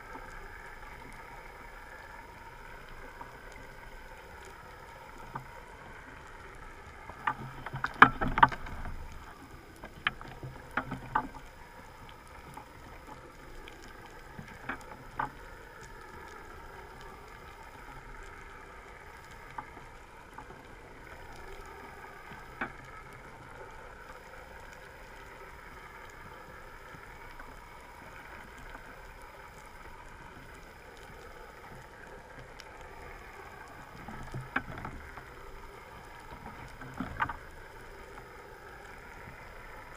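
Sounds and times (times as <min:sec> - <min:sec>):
boat engine hum underwater: 0:00.0 - 0:39.9
underwater water noise: 0:00.0 - 0:39.9.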